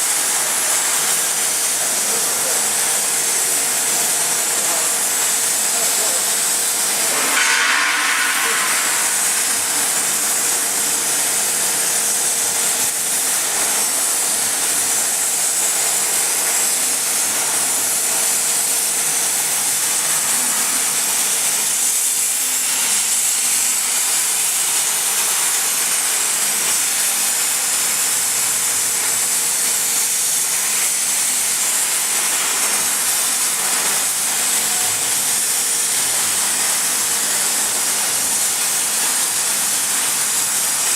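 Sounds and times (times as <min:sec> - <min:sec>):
plasma torch hissing: 0:00.0 - 0:40.9.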